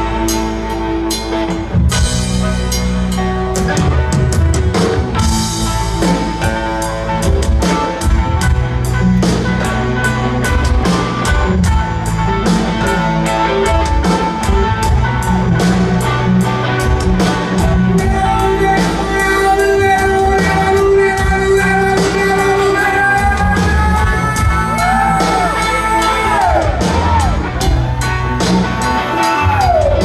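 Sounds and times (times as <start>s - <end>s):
drum kit beat: 0.0s - 30.0s
electric guitar: 0.0s - 30.0s.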